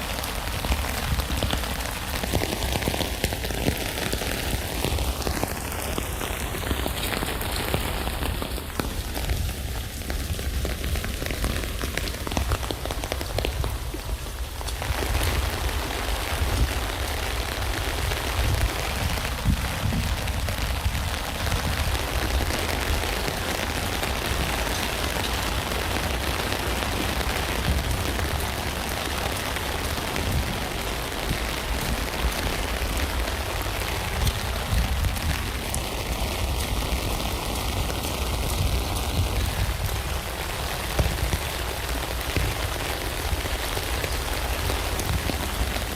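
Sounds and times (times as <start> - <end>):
rain pattering on a tent: 0.0 - 45.9.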